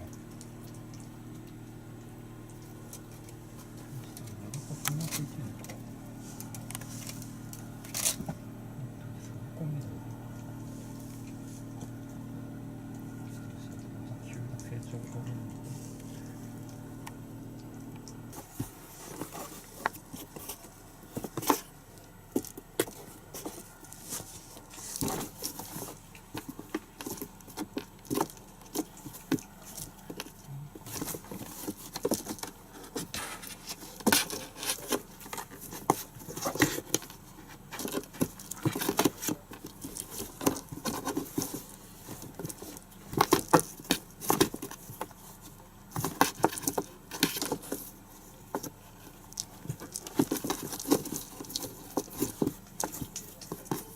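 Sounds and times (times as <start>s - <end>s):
kitten paws tapping and scrabbling: 0.0s - 53.9s.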